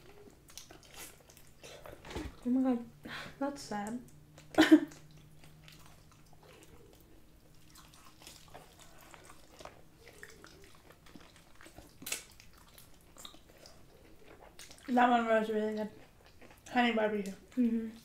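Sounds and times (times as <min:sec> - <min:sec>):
people chewing crunchy food: 0:00.0 - 0:02.6, 0:04.1 - 0:18.0.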